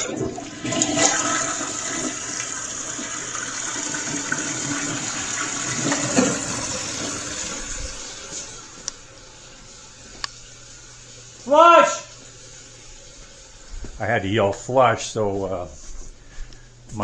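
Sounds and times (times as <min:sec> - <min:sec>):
toilet flushing: 0:00.0 - 0:14.4.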